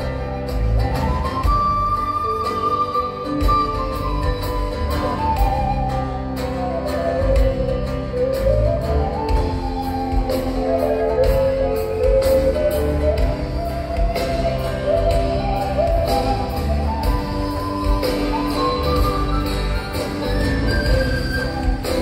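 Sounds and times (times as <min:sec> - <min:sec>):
live band instrumental music: 0:00.0 - 0:22.0.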